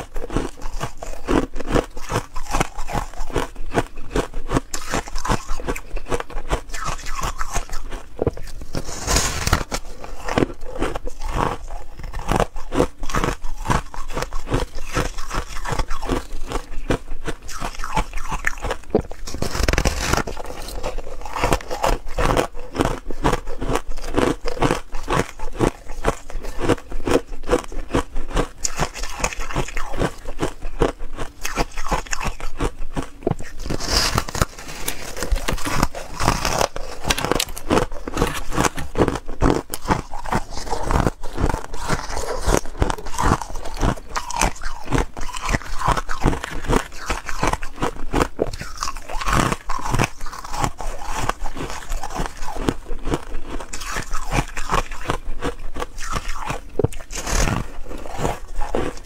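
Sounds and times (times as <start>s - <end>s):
crunching ice in mouth: 0.0s - 59.0s.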